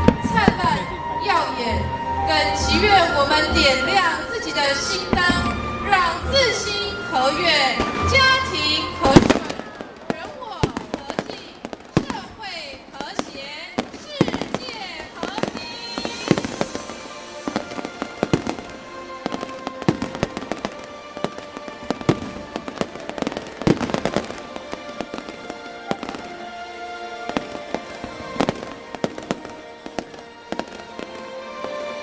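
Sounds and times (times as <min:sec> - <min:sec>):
fireworks bangs and crackles: 0:00.0 - 0:32.0
music over loudspeakers: 0:00.0 - 0:32.0.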